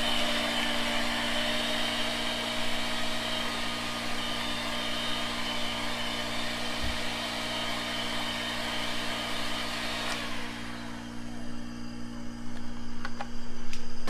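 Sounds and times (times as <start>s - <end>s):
electric mixer running: 0.0s - 12.5s.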